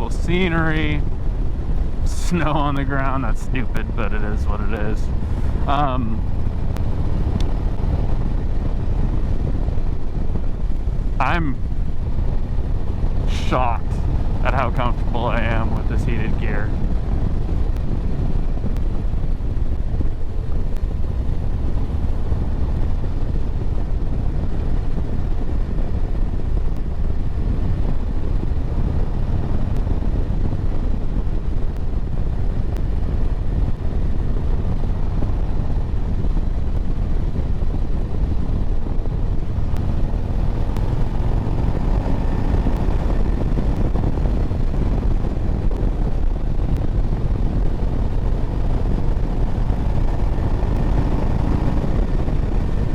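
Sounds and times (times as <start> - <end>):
wind rushing: 0.0 - 31.2, 37.3 - 52.9
motorcycle engine noise: 0.0 - 52.9.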